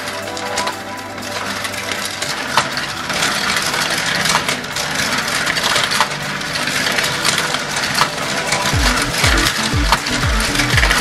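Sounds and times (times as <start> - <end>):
marbles rolling on a marble run: 0.0 - 11.0.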